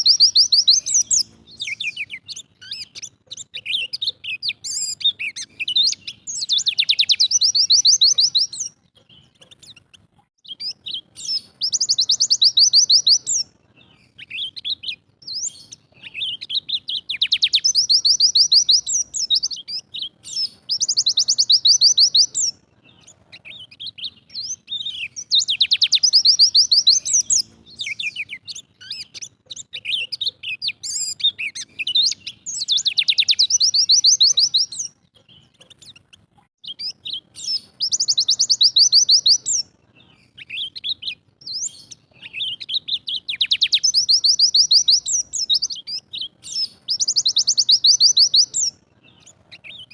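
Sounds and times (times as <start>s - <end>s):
bird twittering and trilling: 0.0s - 49.9s.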